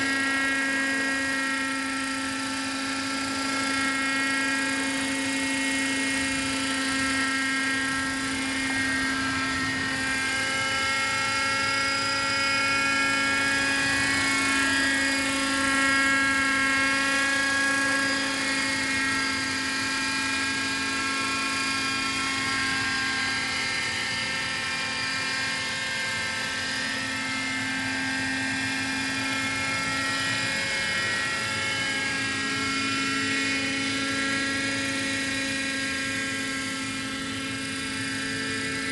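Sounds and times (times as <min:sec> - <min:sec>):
model helicopter whining hum: 0:00.0 - 0:38.9.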